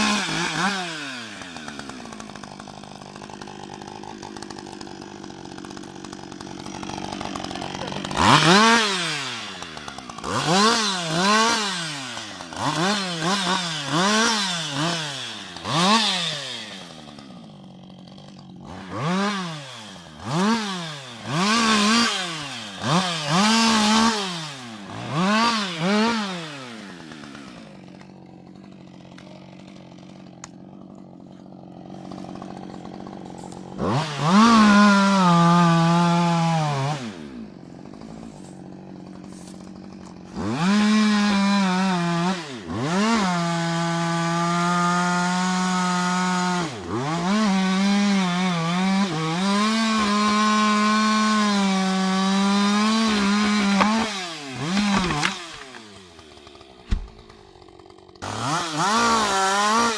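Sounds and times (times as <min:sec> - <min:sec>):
chainsaw idling and cutting wood: 0:00.0 - 0:59.9.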